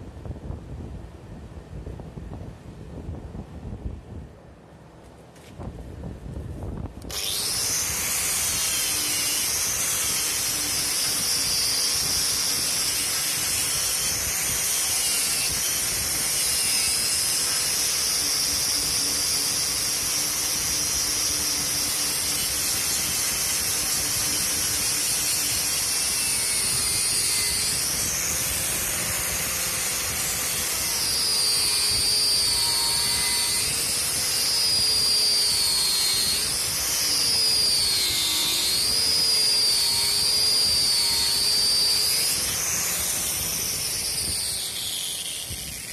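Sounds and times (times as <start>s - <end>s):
angle grinder motor whine: 7.0s - 45.9s.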